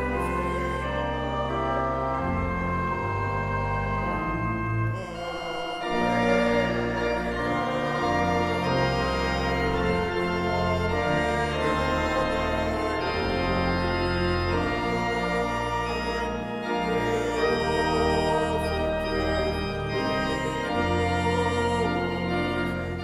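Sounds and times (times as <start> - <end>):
church organ playing hymn chords: 0.0 - 23.0.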